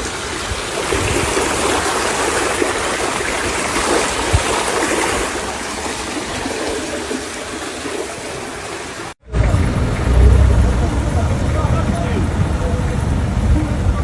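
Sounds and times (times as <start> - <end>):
flowing water: 0.0 - 14.0.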